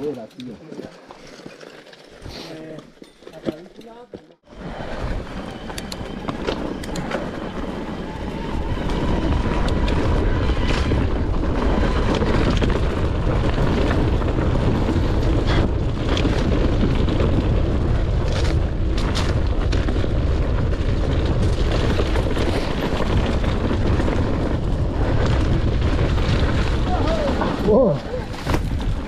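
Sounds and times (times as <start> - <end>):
bike tyre and frame rattle: 0.0 - 29.0
wind buffeting microphone: 4.4 - 29.0.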